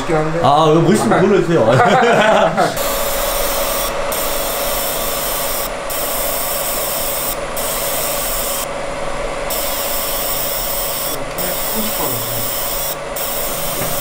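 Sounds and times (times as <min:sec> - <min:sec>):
steady hum tone: 0:00.0 - 0:14.0
laser engraver hissing: 0:02.8 - 0:14.0.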